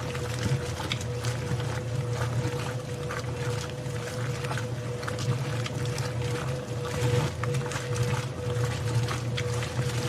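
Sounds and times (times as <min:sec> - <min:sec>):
washing machine motor humming: 0:00.0 - 0:10.0
water sloshing in drum: 0:00.0 - 0:10.0.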